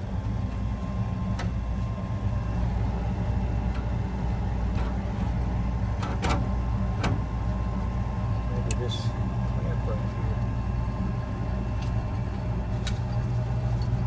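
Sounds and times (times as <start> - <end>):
faint steady whine: 0.0 - 14.0
furnace burner and fan hum: 0.0 - 14.0.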